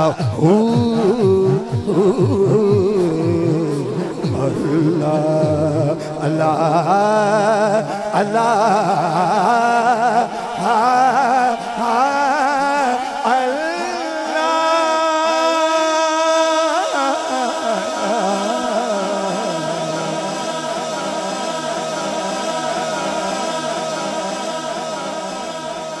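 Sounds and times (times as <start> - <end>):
man singing into a microphone: 0.0 - 26.0.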